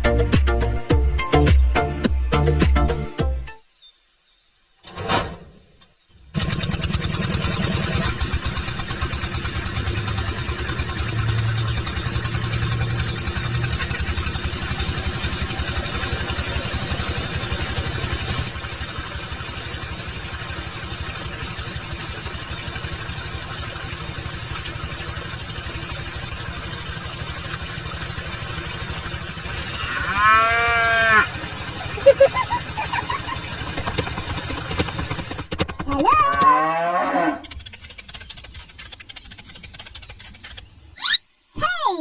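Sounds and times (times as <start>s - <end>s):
small engine running: 6.1s - 41.2s.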